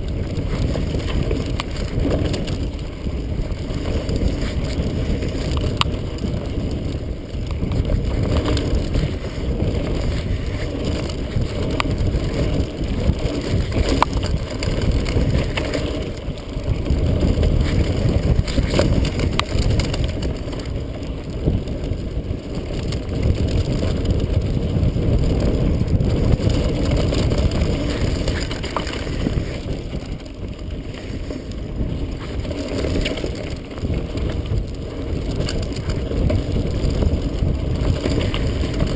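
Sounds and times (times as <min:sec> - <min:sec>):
bike clicks and rattles: 0:00.0 - 0:38.9
wind buffeting microphone: 0:00.0 - 0:38.9.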